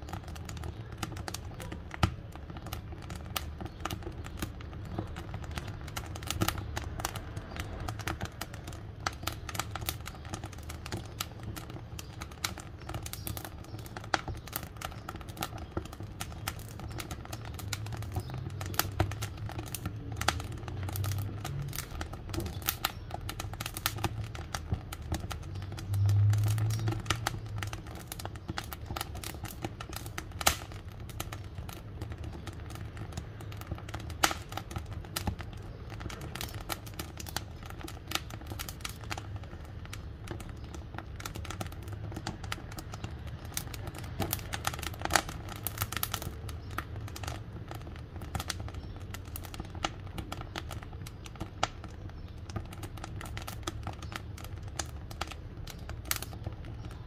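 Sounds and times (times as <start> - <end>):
low fire rumble: 0.0 - 57.0
wood fire crackling: 0.0 - 57.0.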